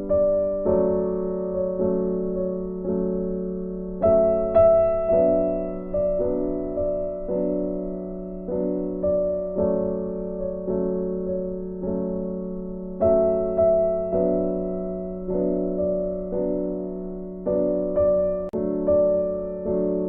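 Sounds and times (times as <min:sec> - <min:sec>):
soft slow piano music: 0:00.0 - 0:20.0.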